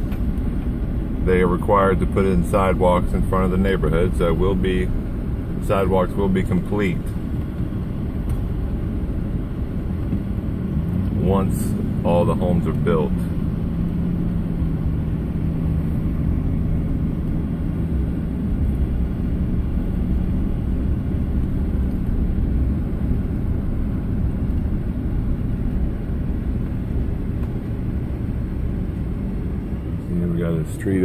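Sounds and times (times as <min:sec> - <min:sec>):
car road noise from cabin: 0:00.0 - 0:31.0
faint engine drone: 0:00.0 - 0:31.0.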